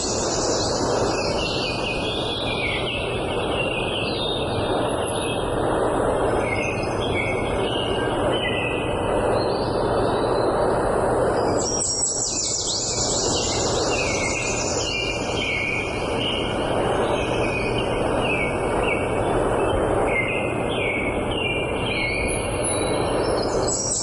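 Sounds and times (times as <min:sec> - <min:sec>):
songbirds singing: 0:00.0 - 0:24.0
steady rushing noise: 0:00.0 - 0:24.0.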